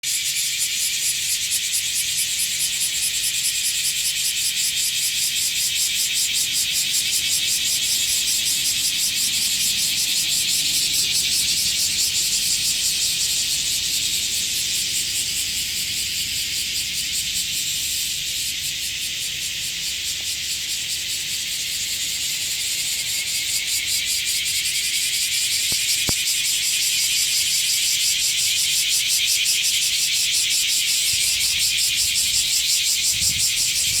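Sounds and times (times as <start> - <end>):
cicadas buzzing: 0.0 - 34.0.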